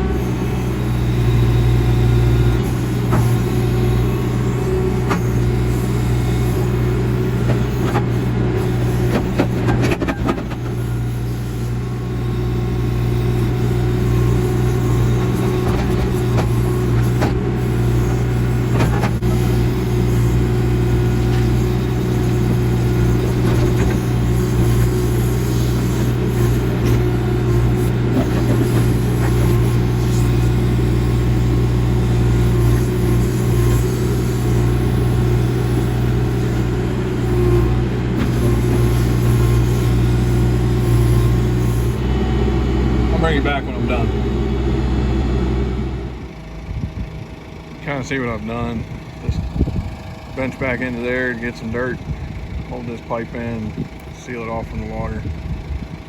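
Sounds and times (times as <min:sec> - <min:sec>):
backhoe engine running: 0:00.0 - 0:56.0.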